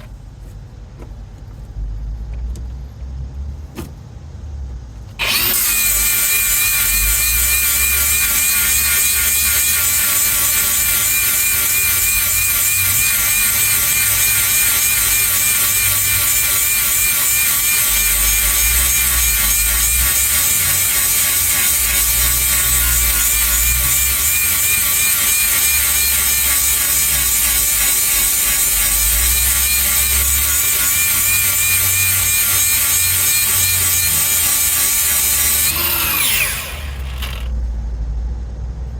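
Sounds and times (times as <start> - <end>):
power grinder grinding steel: 5.2 - 37.5.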